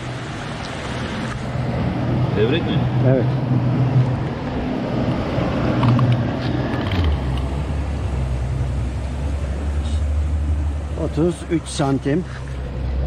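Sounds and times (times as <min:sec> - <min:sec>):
engine running low drone: 0:00.0 - 0:13.0.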